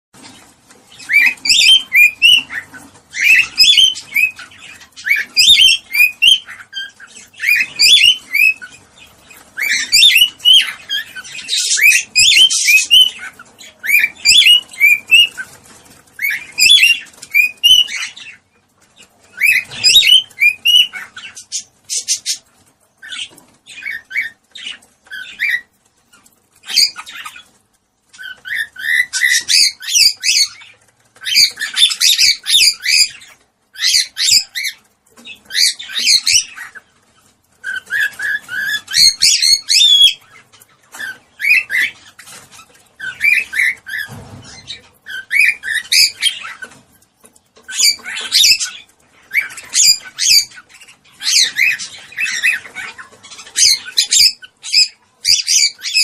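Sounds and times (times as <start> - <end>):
cockatiels chirping and warbling: 0.2 - 56.0.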